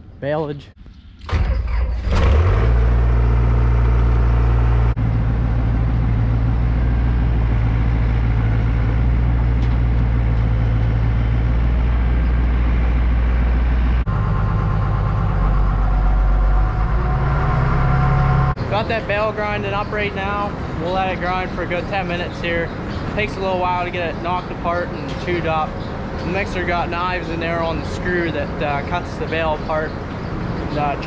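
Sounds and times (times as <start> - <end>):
tractor engine running: 1.2 - 31.0
diesel engine running: 1.3 - 31.0.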